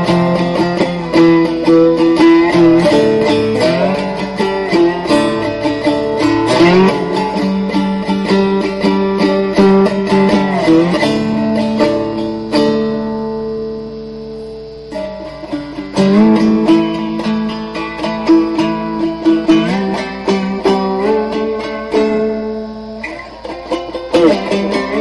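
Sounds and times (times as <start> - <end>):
slide guitar picking: 0.0 - 25.0.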